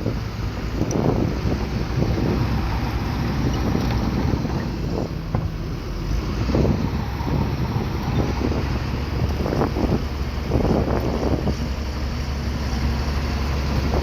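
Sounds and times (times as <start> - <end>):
bulldozer diesel engine running: 0.0 - 14.0
wind buffeting microphone: 0.0 - 14.0.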